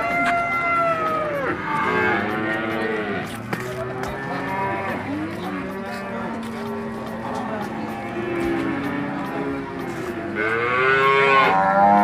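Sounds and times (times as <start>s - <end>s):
cattle mooing: 0.2s - 12.0s.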